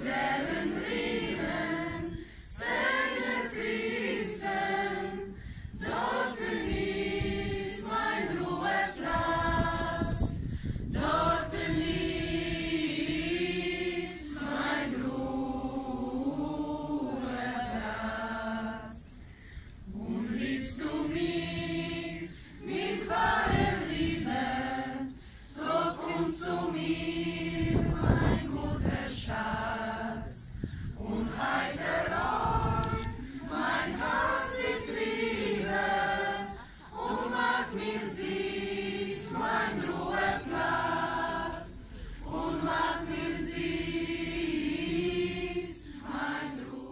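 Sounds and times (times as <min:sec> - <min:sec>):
choir singing: 0:00.0 - 0:19.2, 0:19.9 - 0:46.9.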